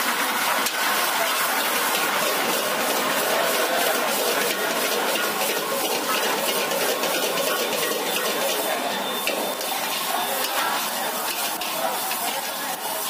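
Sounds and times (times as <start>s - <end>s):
food sizzling: 0.0s - 13.0s
metal utensils clanking on wok: 0.1s - 13.0s.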